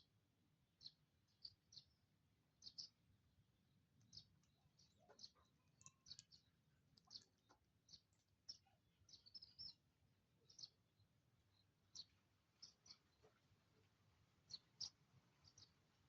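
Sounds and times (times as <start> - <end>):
small birds chirping: 0.7 - 16.0.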